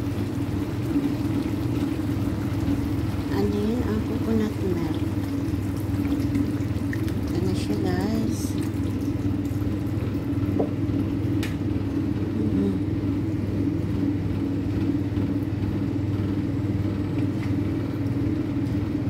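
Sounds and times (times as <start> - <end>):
kitchen hum and rumble: 0.0 - 19.0.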